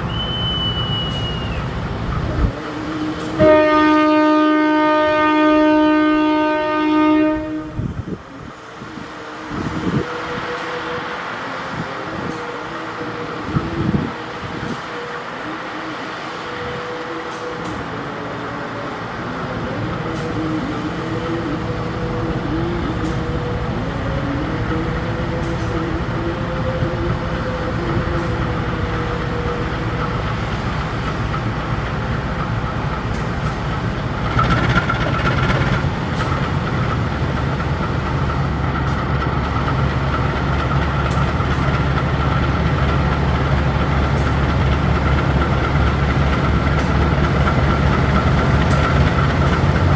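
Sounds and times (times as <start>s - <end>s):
diesel locomotive engine rumbling: 0.0s - 49.9s.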